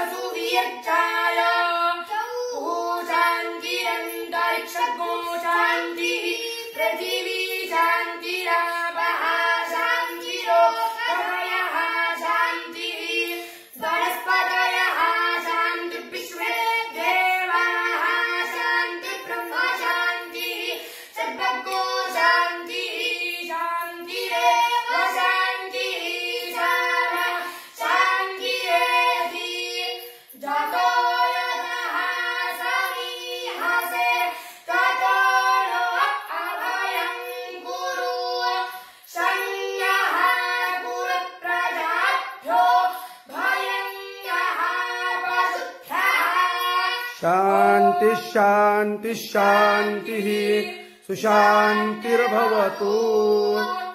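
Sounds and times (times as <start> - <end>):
boy chanting: 0.0 - 53.9.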